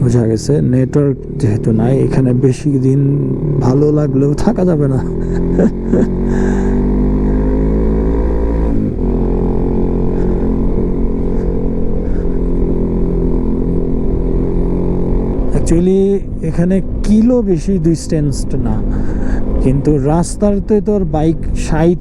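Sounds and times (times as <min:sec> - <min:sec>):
low rumble: 0:00.0 - 0:22.0
motorcycle engine running: 0:00.0 - 0:22.0.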